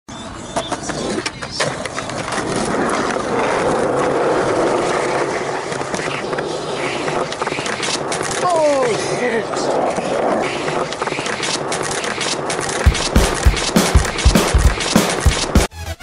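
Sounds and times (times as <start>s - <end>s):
skateboard wheels rolling on concrete: 0.1s - 15.7s
skateboard clacks: 0.2s - 9.0s, 9.9s - 15.5s.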